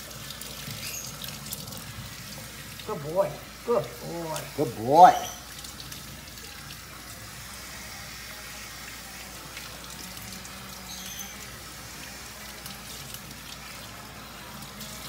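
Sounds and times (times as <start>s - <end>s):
water spraying into a metal sink: 0.0s - 15.0s.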